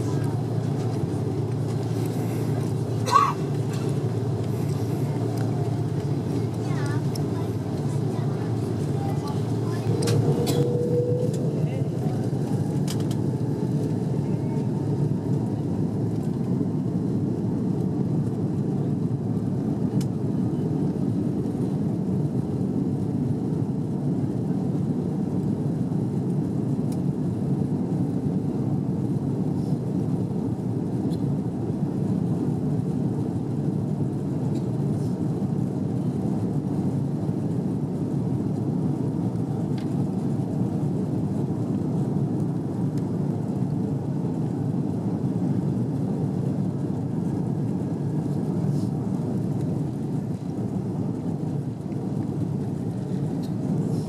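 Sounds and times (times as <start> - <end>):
airliner cabin rumble while taxiing: 0.0 - 54.0.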